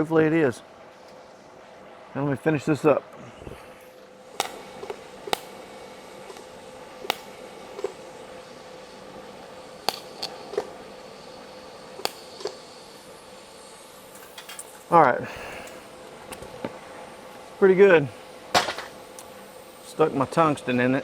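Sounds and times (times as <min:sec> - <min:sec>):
welding arc hum and hiss: 0:00.0 - 0:21.0.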